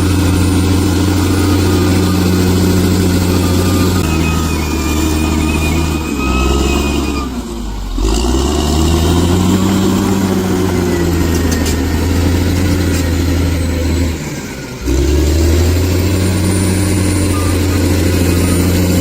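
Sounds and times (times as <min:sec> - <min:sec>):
bulldozer diesel engine working: 0:00.0 - 0:19.0.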